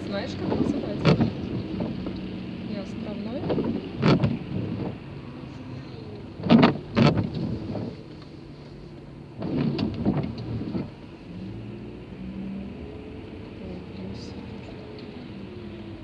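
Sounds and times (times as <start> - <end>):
car cabin noise: 0.0 - 16.0.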